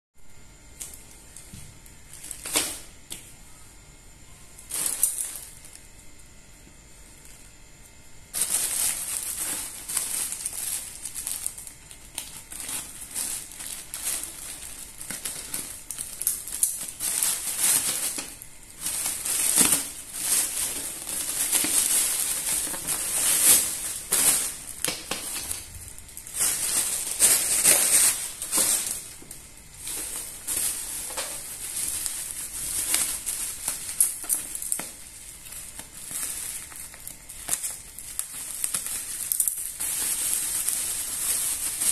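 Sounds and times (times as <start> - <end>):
plastic bag and bubble wrap crinkling: 0.4 - 41.9.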